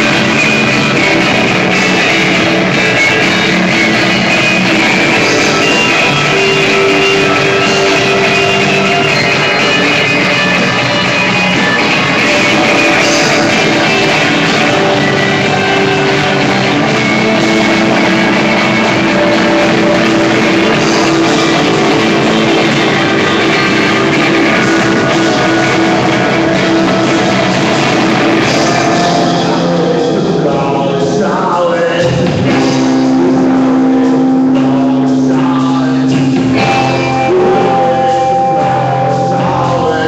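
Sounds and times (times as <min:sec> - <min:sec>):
drum kit: 0:00.0 - 0:40.0
electric guitars: 0:00.0 - 0:40.0.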